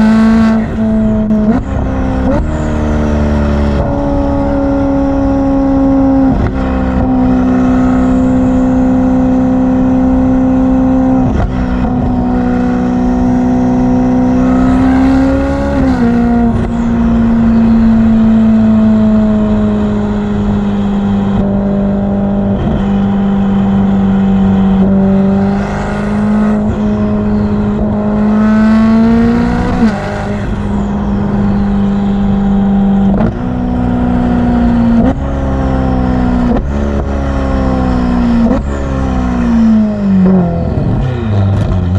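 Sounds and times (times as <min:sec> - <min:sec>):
sports car engine running: 0:00.0 - 0:41.9.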